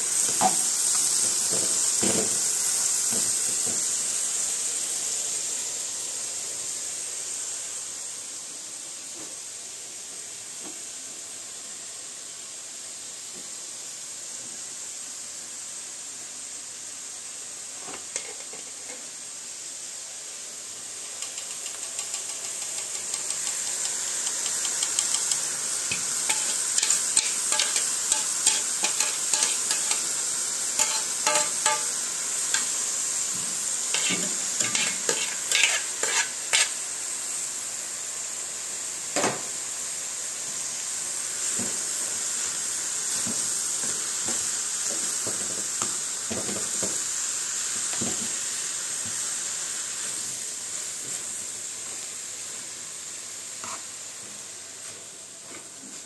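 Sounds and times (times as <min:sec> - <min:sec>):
food sizzling in frying pan: 0:00.0 - 0:56.0
gas stove hissing: 0:00.0 - 0:56.0.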